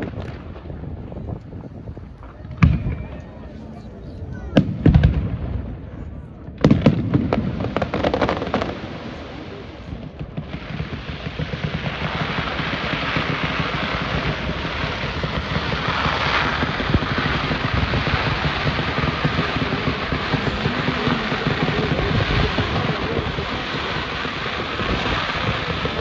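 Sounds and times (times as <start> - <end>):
firework crackling: 0.0 - 26.0.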